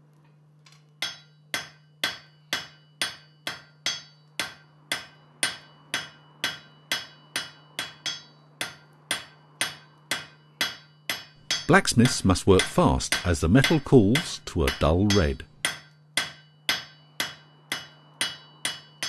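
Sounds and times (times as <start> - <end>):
low steady hum: 0.0 - 19.0
hammer striking metal on anvil: 0.7 - 19.0.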